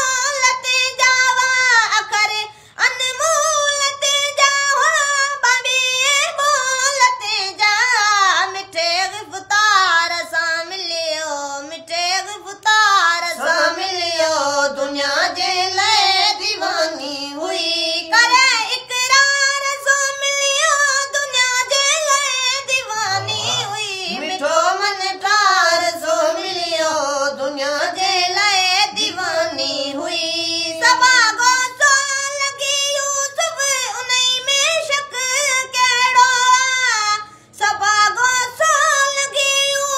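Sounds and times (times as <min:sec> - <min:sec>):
boy singing devotional song: 0:00.0 - 0:39.9.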